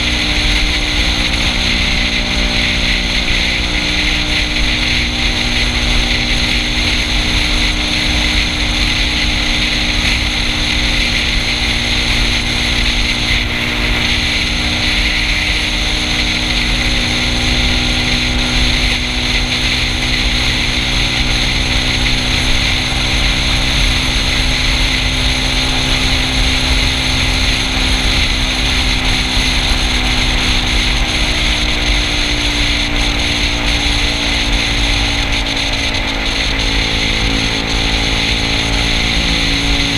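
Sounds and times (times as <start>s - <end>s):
scooter engine cruising: 0.0s - 39.9s
wind and road noise: 0.0s - 39.9s.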